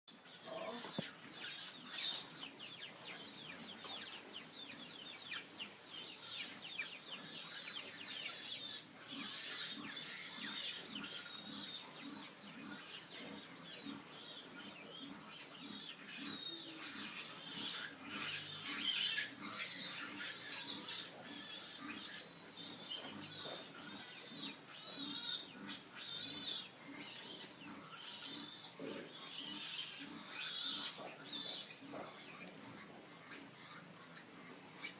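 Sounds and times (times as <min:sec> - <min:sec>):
pigs grunting: 0:00.2 - 0:02.4, 0:07.1 - 0:34.9
pigs squealing: 0:00.2 - 0:02.4, 0:07.2 - 0:34.9.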